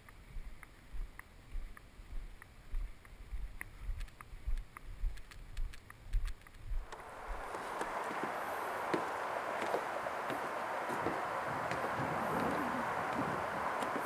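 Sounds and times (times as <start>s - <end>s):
footsteps low thuds: 0.4s - 14.0s.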